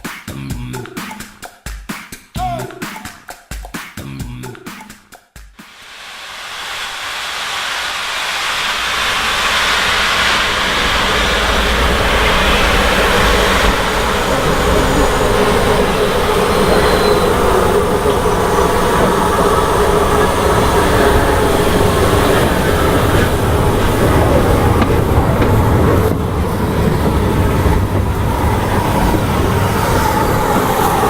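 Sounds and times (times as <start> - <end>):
train rumbling and rushing: 5.8 - 31.0.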